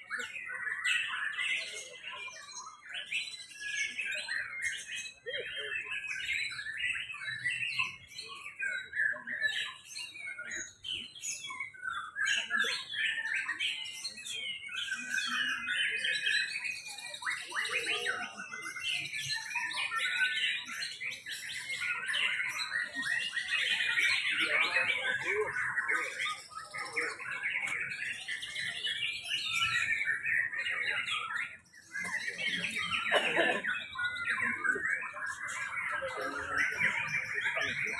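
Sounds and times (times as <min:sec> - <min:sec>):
birds singing in chorus: 0:00.0 - 0:37.9.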